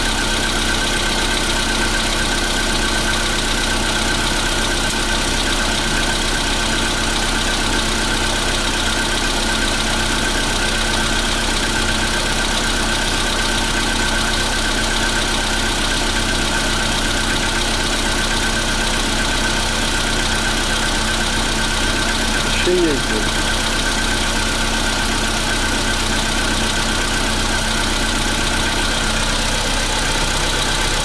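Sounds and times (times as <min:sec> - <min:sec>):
car engine idling with knock: 0:00.0 - 0:31.0.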